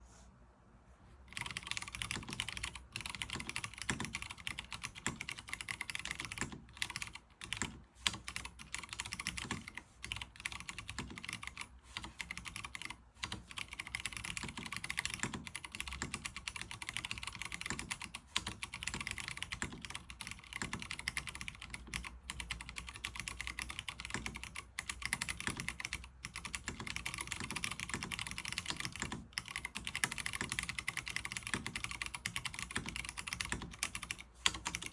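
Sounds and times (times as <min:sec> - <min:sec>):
mechanical keyboard typing: 0:01.3 - 0:34.9.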